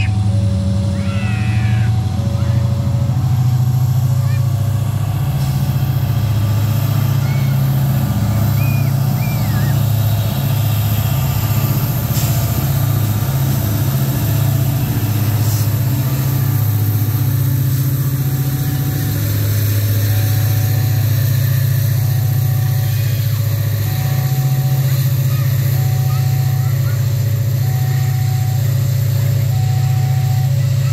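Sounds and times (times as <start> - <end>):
diesel locomotive engine drone: 0.0 - 30.9
freight wagons rolling on rails: 0.0 - 30.9.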